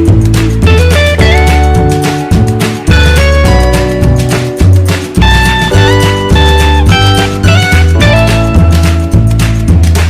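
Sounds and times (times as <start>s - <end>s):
upbeat music with guitar: 0.0s - 10.0s.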